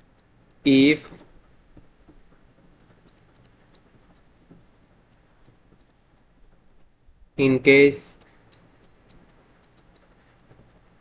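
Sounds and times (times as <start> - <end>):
light clicks and ticks: 0.0 - 7.0, 8.1 - 11.0
low room noise: 0.0 - 11.0.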